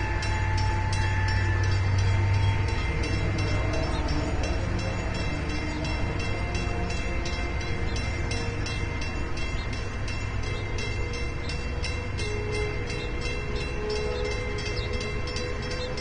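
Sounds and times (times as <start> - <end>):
ship diesel engines rumbling: 0.0 - 16.0.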